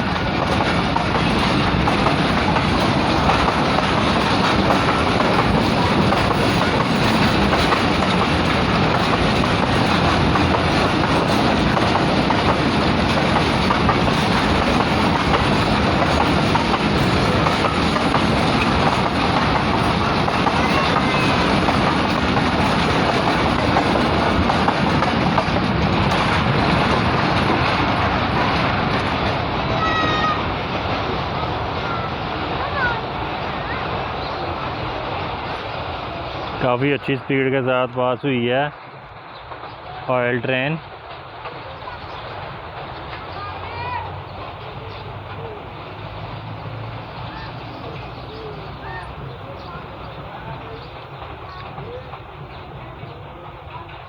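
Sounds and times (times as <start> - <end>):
train wheels clattering over rails: 0.0 - 54.0.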